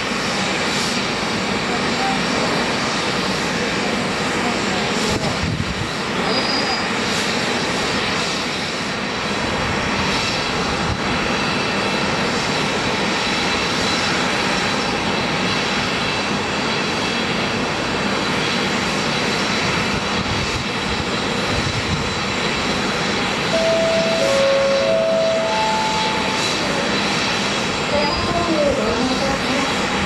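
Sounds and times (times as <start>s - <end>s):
jet engines running with whine: 0.0s - 30.0s.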